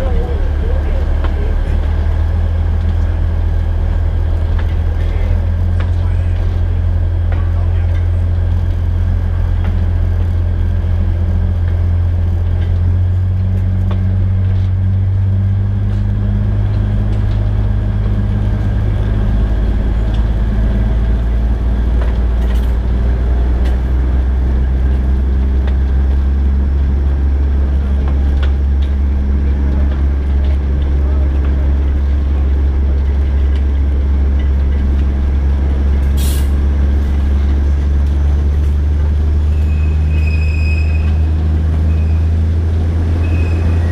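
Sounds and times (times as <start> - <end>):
diesel locomotive engine humming: 0.0 - 43.9.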